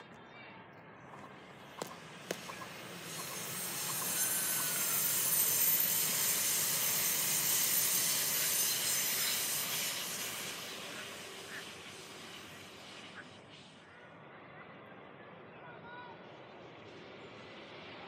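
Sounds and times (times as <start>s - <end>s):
electric train passing: 1.2s - 14.5s, 16.2s - 18.0s.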